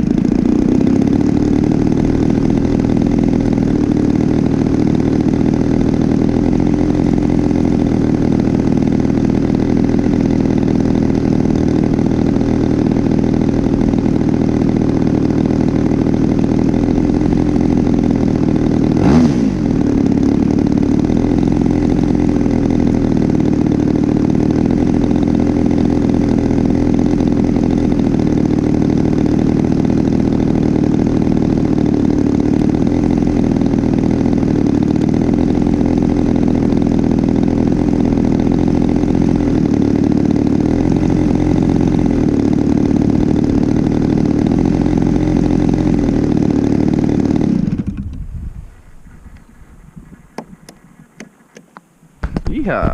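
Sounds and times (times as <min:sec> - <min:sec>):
model plane engine passing: 0:00.0 - 0:51.6.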